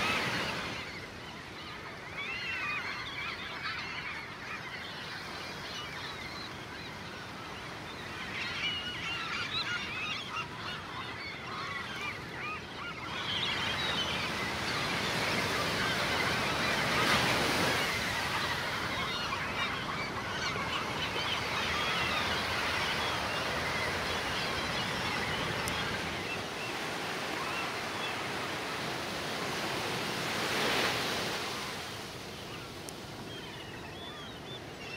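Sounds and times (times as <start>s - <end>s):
gulls calling: 0.0s - 34.9s.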